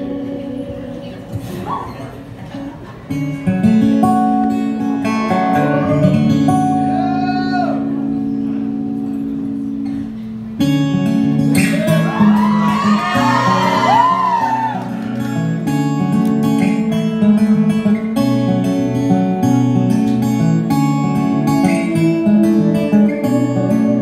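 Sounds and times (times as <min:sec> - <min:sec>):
acoustic guitar: 0:00.0 - 0:24.0
electric guitar: 0:00.0 - 0:24.0
sliding high guitar notes: 0:03.4 - 0:24.0.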